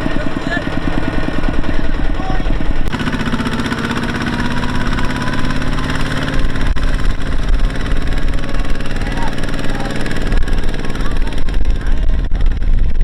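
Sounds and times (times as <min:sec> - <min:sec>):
heavy machine engine chugging: 0:00.0 - 0:13.0.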